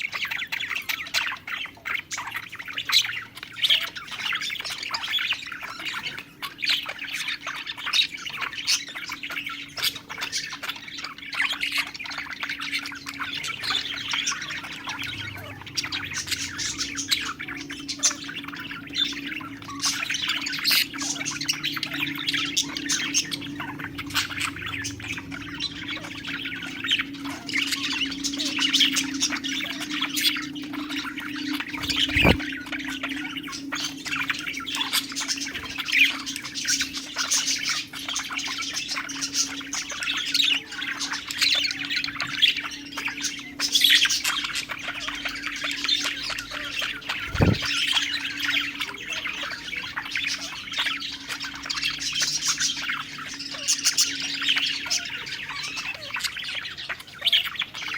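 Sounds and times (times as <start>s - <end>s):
budgerigars chattering: 0.0s - 57.9s.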